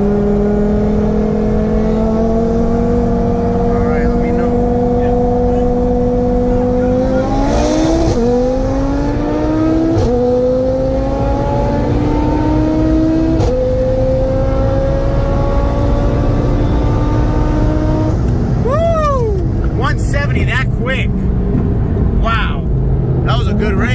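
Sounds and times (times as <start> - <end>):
car engine at full throttle: 0.0 - 23.9.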